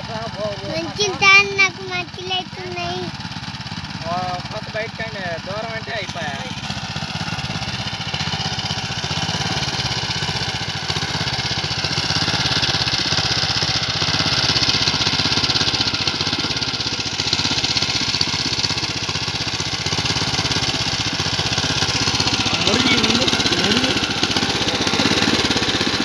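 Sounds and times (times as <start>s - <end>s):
small petrol engine running: 0.0s - 26.0s.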